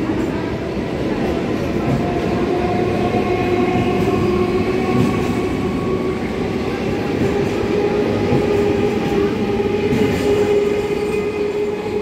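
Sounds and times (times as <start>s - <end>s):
train coaches rumbling: 0.0s - 12.0s
train whine: 0.0s - 12.0s.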